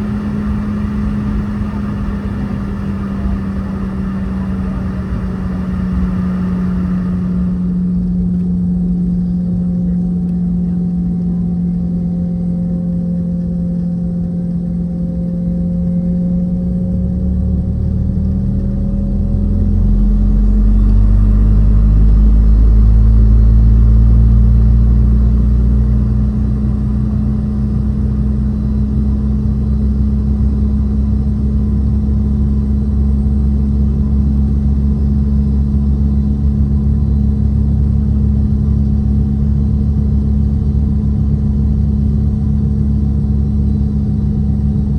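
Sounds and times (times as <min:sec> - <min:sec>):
deep rumble: 0:00.0 - 0:44.9
jet engine hum in cabin: 0:00.0 - 0:44.9.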